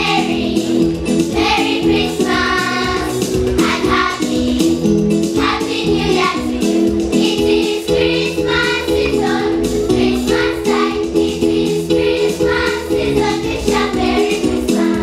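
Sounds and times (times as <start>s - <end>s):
children singing: 0.0s - 15.0s
music: 0.0s - 15.0s.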